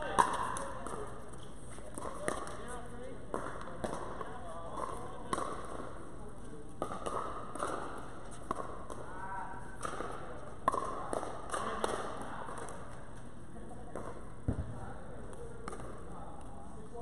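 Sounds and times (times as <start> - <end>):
paddles hitting plastic ball: 0.0 - 6.0, 6.7 - 13.1, 13.7 - 16.5.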